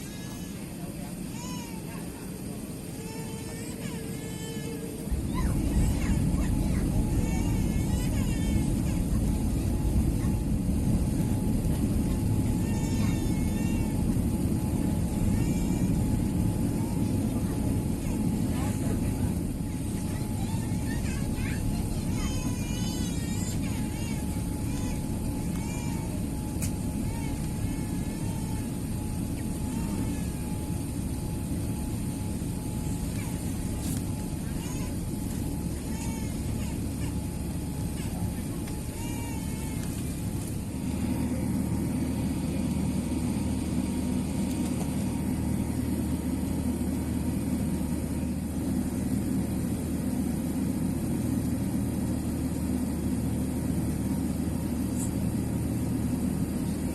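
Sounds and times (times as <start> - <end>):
jet engine whine: 0.0 - 56.9
jet engines rumbling: 0.0 - 56.9.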